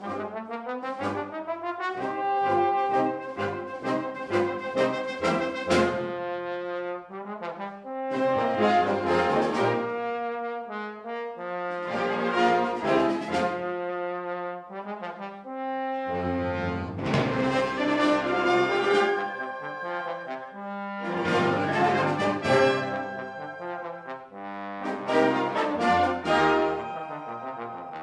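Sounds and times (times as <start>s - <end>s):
wind band playing: 0.0s - 28.0s.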